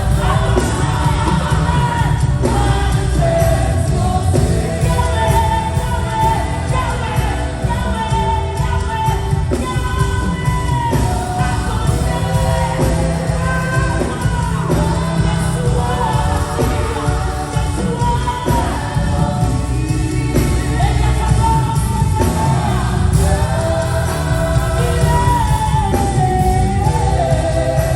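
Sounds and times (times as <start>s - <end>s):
band with heavy bass: 0.0s - 27.9s.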